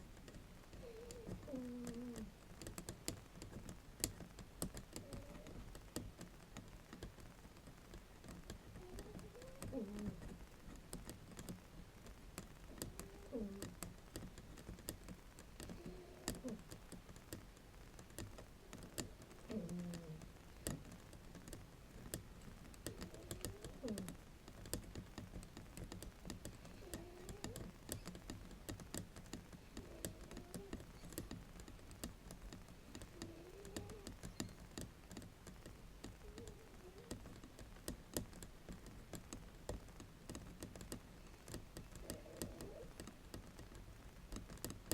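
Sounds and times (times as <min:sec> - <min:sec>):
bamboo mat tapped and scratched: 0:00.0 - 0:44.9.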